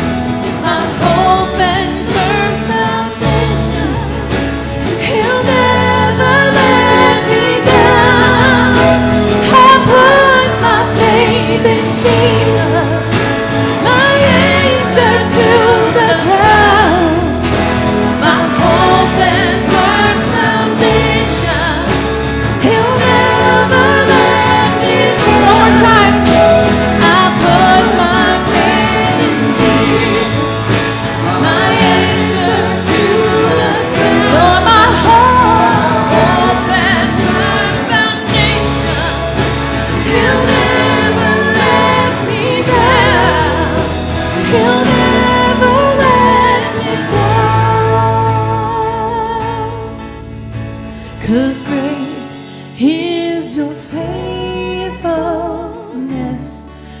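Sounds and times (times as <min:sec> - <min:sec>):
voices singing: 0:00.0 - 0:49.9
sustained bass chords: 0:00.0 - 0:52.5
worship band playing: 0:00.0 - 0:55.2.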